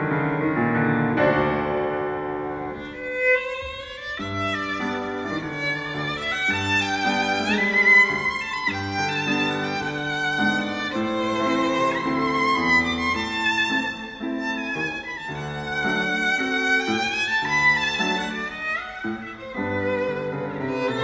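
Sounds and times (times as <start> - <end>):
solo violin melody: 1.2 - 21.0.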